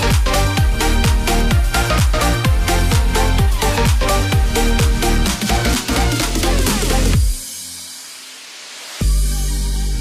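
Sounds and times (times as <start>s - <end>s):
electronic music beat: 0.0s - 10.0s.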